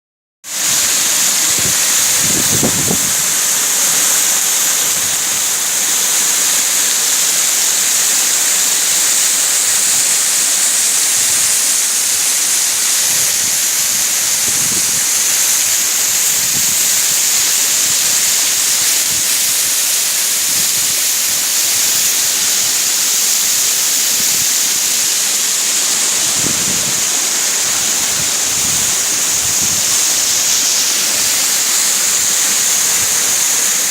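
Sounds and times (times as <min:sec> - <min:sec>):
waterfall rushing: 0:00.5 - 0:33.9.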